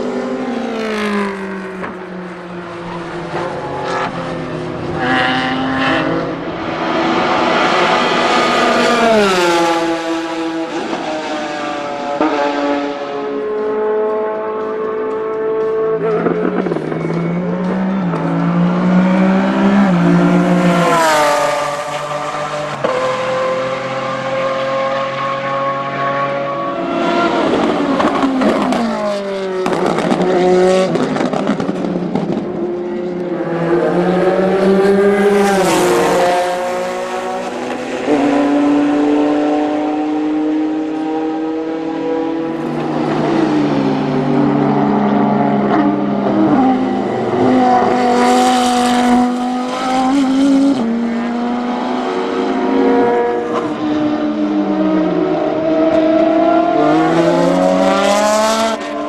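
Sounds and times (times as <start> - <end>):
race cars passing at speed: 0.0 - 59.0.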